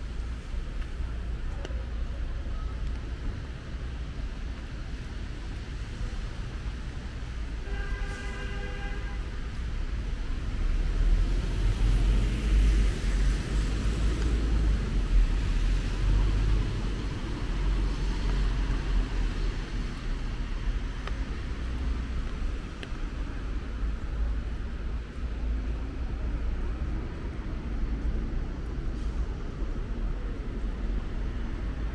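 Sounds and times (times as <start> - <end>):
traffic on wet streets: 0.0 - 31.9.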